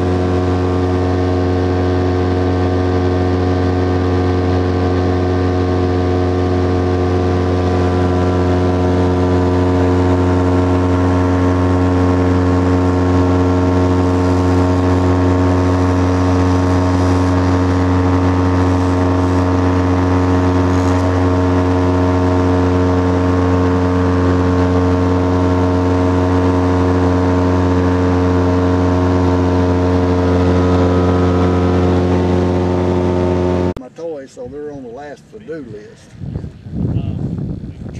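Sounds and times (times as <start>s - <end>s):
light aircraft engine drone: 0.0s - 37.9s.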